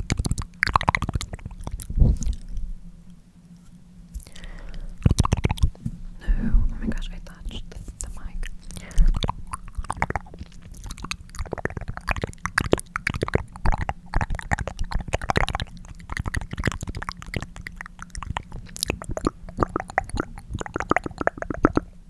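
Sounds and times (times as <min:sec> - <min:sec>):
tongue clicking: 0:00.0 - 0:02.6, 0:04.2 - 0:05.8, 0:08.4 - 0:22.0.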